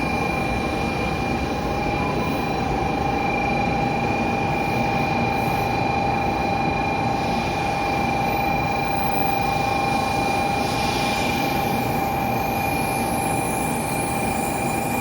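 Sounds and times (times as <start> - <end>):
diesel train rumbling with whine: 0.0 - 15.0.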